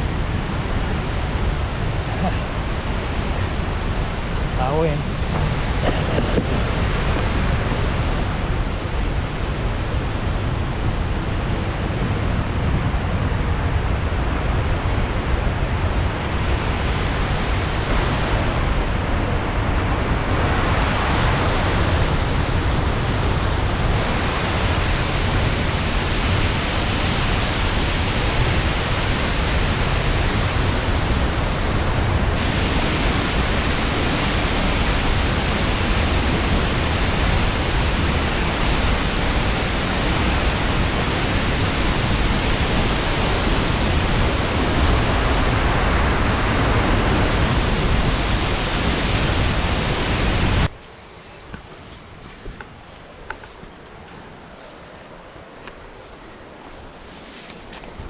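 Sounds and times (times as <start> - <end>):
rushing water roaring: 0.0 - 50.7.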